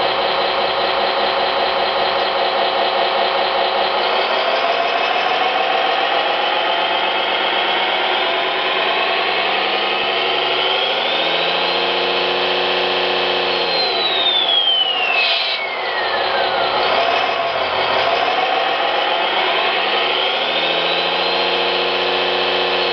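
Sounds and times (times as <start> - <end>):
high whine falling in pitch: 0.0 - 22.9
simulated engine from small speaker: 0.0 - 22.9.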